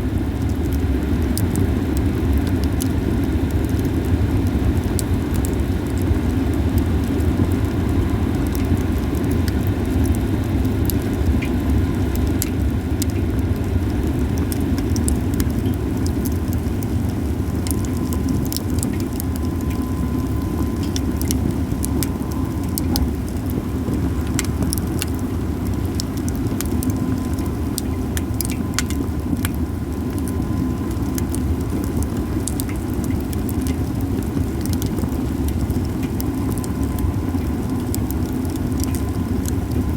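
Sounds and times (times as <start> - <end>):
campfire crackling and popping: 0.0 - 39.9
steady low rumble: 0.0 - 39.9.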